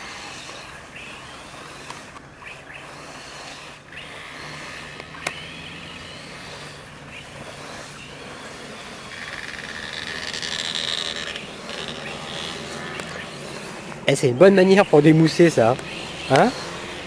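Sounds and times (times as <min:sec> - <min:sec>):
toy car motor whining: 0:00.0 - 0:17.0.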